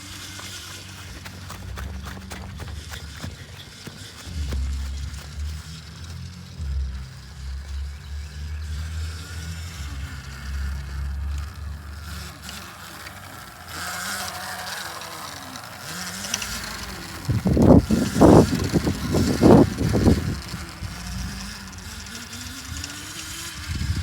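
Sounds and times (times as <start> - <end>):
electric bike motor hum: 0.0 - 24.0
wind rumbling on microphone: 0.1 - 12.5, 16.1 - 24.0.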